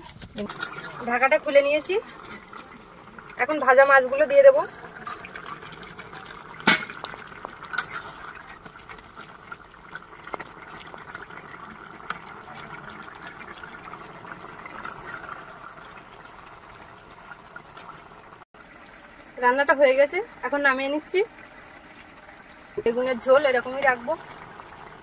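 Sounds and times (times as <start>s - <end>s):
curry bubbling: 0.0s - 25.0s.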